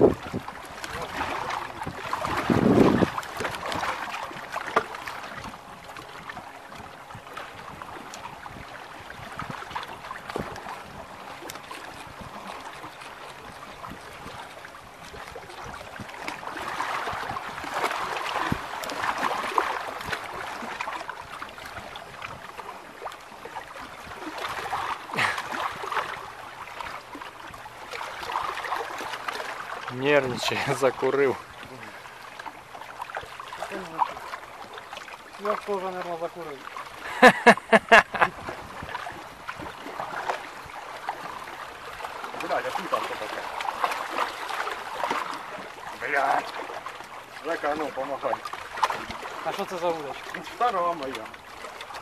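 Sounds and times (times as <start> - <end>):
small waves lapping against boat hull: 0.0 - 52.0.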